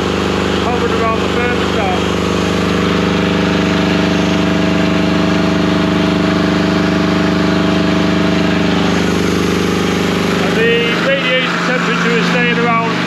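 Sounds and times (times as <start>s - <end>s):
generator engine running at high revs: 0.0s - 13.0s.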